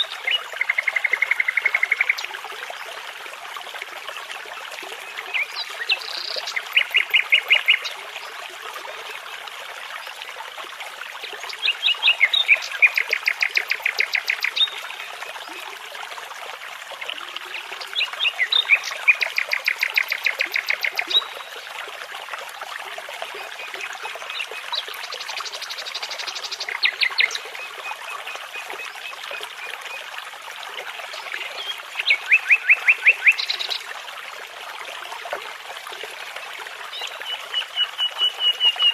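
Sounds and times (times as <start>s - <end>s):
babbling brook: 0.0s - 38.9s.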